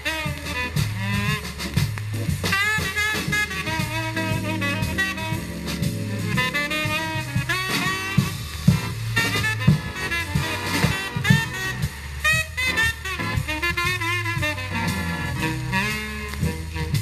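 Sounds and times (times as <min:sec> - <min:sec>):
soul music on a record: 0:00.0 - 0:17.0.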